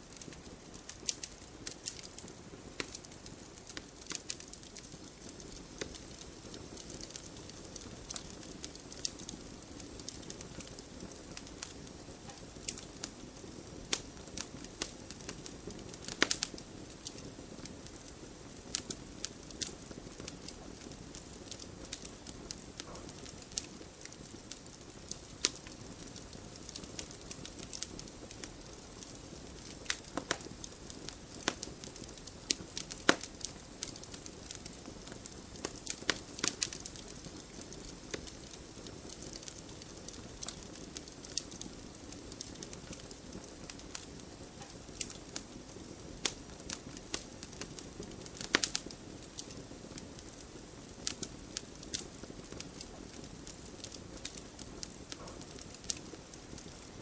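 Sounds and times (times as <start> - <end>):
fire crackling and popping: 0.0 - 57.0
flames rumbling: 0.0 - 57.0.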